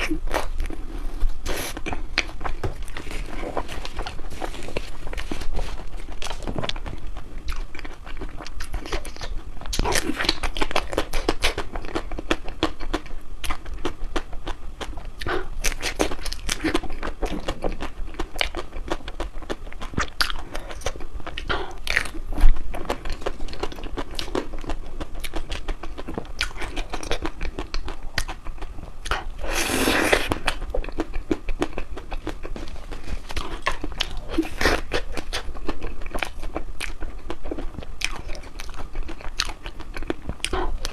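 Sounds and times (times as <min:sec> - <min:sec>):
crunchy ice cream chewing: 0:00.0 - 0:40.9.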